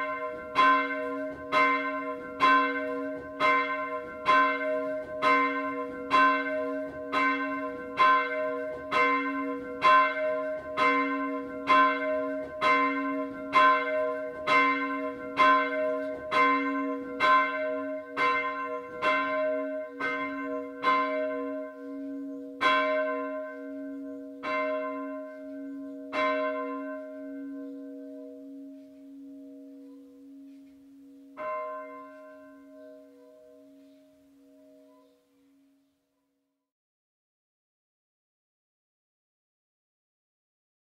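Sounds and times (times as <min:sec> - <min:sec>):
church bell ringing: 0:00.0 - 0:35.8.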